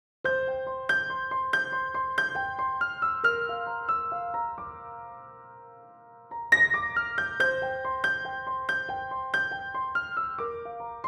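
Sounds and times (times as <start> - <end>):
piano notes ringing: 0.3 - 11.0.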